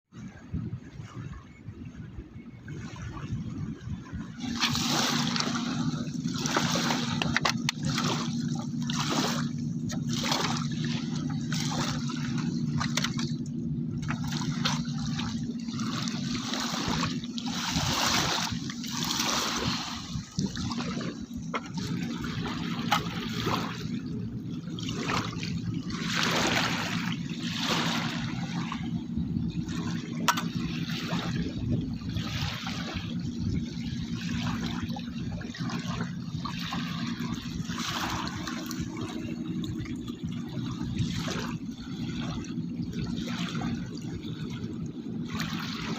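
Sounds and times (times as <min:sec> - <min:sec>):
steady low hum: 0:00.2 - 0:45.9
river water trickling and splashing: 0:02.6 - 0:45.9.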